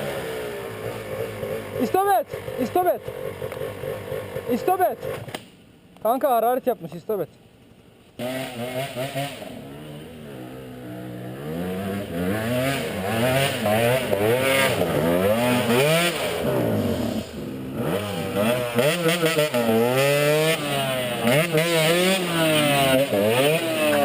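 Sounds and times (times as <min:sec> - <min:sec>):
dirt bike engine revving: 0:00.0 - 0:05.4, 0:08.2 - 0:24.0.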